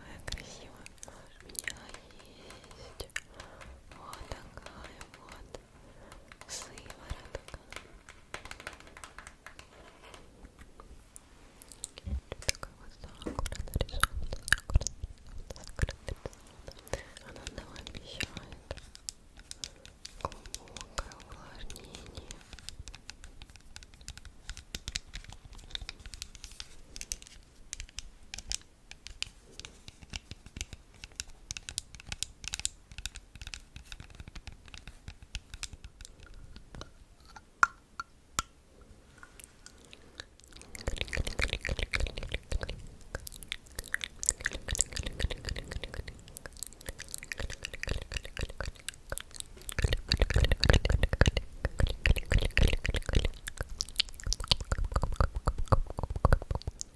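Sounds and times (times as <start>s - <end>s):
small clicks and crackles: 0.8s - 10.7s, 11.6s - 38.1s, 39.1s - 56.9s.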